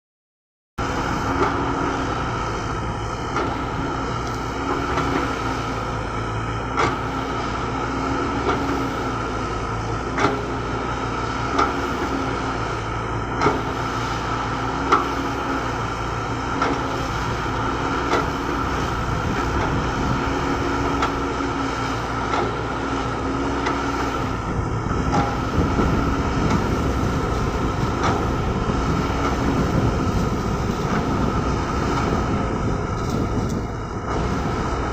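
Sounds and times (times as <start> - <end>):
excavator diesel engine running: 0.8 - 34.9.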